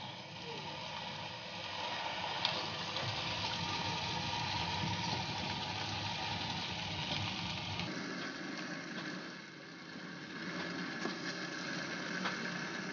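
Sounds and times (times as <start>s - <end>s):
potato slices sizzling in oil: 0.7s - 12.9s.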